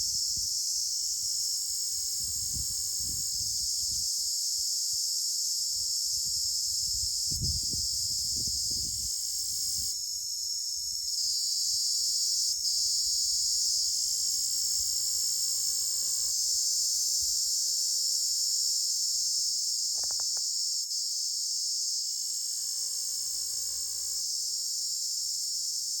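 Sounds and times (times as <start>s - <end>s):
cricket trilling: 0.0s - 21.3s, 22.0s - 26.0s.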